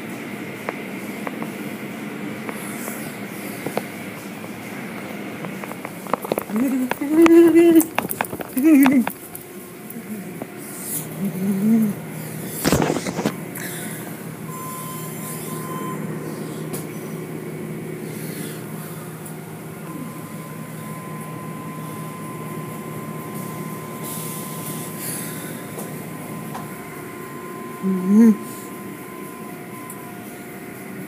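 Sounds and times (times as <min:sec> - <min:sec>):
machinery rumble: 0:00.0 - 0:31.0
thin steady whine: 0:00.0 - 0:31.0.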